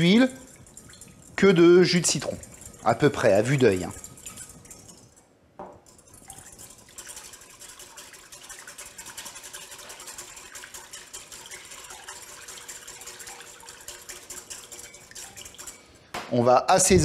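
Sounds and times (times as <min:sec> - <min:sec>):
whisk beating liquid in glass bowl: 0:00.0 - 0:05.2, 0:05.8 - 0:16.0.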